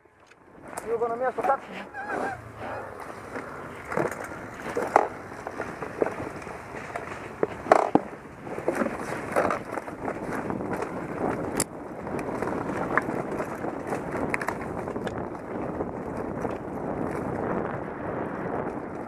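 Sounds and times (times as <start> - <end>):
dirt bike rumble: 0.0 - 19.0
knocks and rattles from bike: 0.2 - 19.0.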